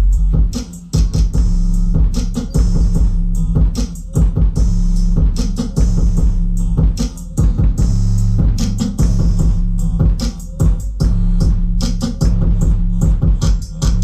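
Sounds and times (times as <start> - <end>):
deep bass from subwoofers: 0.0 - 14.0
music with steady drum beat: 0.0 - 14.0.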